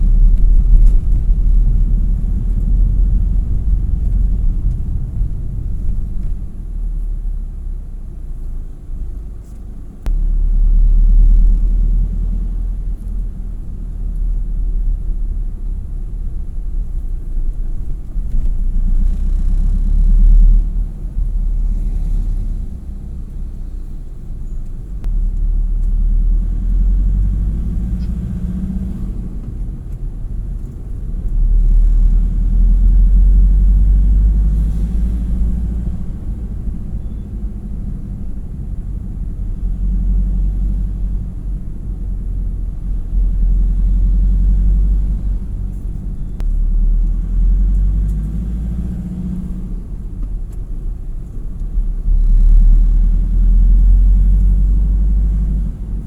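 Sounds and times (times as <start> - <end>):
loud low rumble: 0.0 - 56.0.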